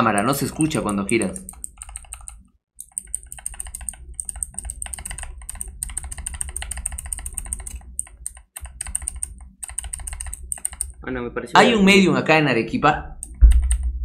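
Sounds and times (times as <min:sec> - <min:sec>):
computer keyboard typing: 0:00.0 - 0:11.0, 0:13.2 - 0:14.0.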